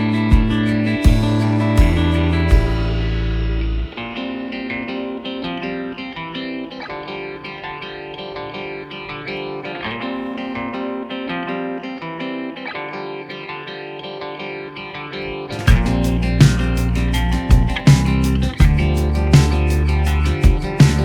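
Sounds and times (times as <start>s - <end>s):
guitar background music: 0.0s - 21.0s.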